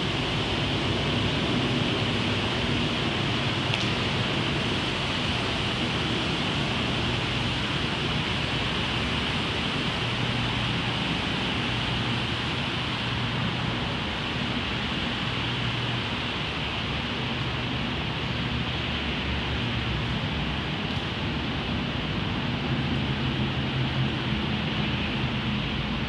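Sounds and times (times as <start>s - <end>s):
low constant hum: 0.0s - 26.0s
steady hiss: 0.0s - 26.0s.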